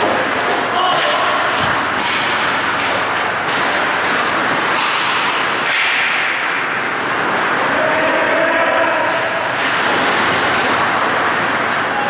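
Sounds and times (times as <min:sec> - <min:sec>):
hockey sticks and puck cracking: 0:00.0 - 0:12.0
skate blades scraping ice: 0:00.0 - 0:12.0.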